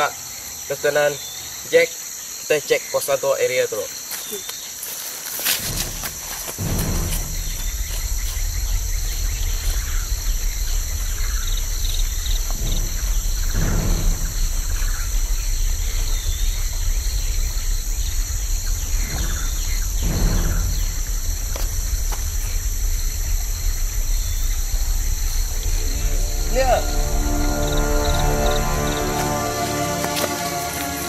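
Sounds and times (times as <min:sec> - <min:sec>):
insects droning: 0:00.0 - 0:31.0
rushes of noise: 0:05.5 - 0:31.0
low rumble: 0:05.6 - 0:31.0.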